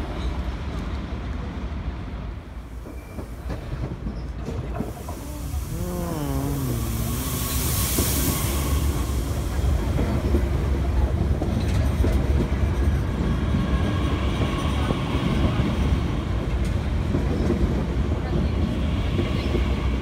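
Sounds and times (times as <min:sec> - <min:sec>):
faint train whine: 0:00.0 - 0:20.0
train wheels rumbling on rails: 0:00.0 - 0:20.0.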